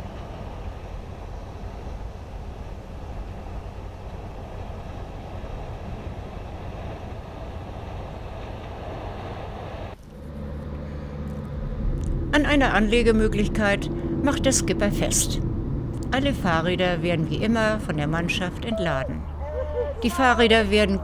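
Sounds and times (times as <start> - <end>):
boat rumble: 0.0 - 21.0
steady low hum: 0.0 - 21.0.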